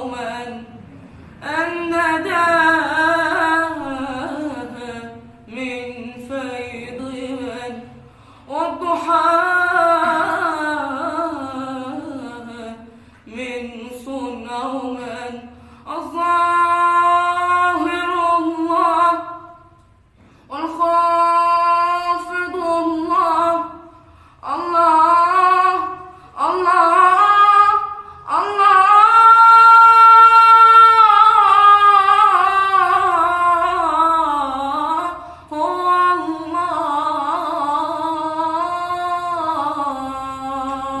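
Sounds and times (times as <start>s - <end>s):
woman singing devotional chant: 0.0s - 41.0s.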